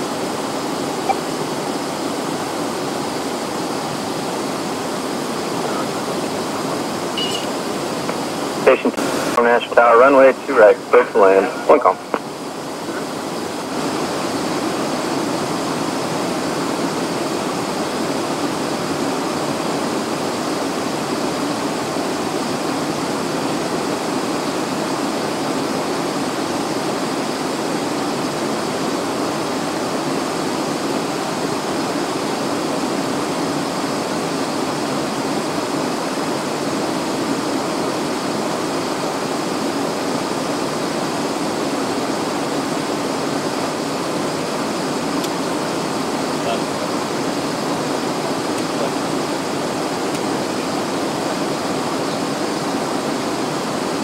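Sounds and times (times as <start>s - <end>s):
jet cockpit airflow and engine noise: 0.0s - 54.0s.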